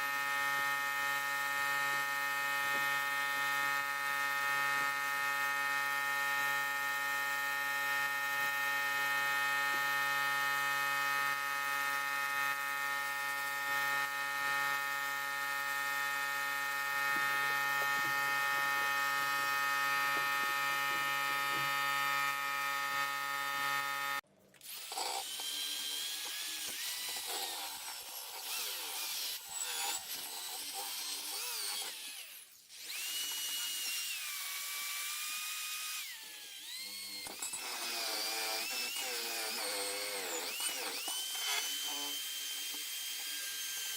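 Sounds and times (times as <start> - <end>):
power tool motor whine: 0.0 - 43.9
rotary tool whining on metal: 0.0 - 43.9.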